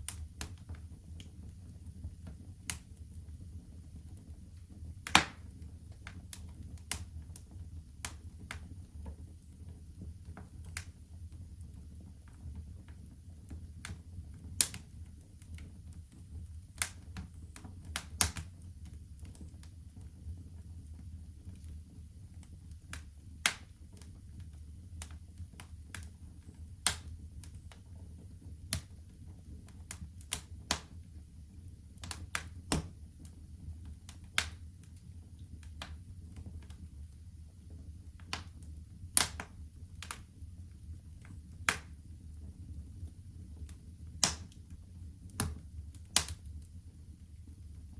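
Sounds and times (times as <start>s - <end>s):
fire crackling and popping: 0.0s - 47.9s
low fire rumble: 0.0s - 47.9s.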